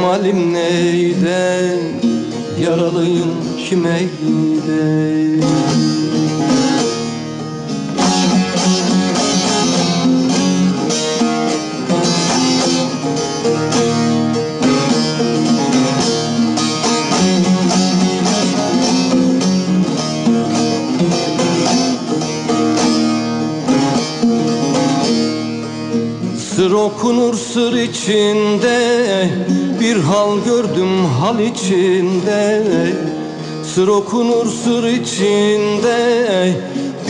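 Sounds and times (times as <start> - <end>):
fast strummed long-necked lute: 0.0 - 37.0.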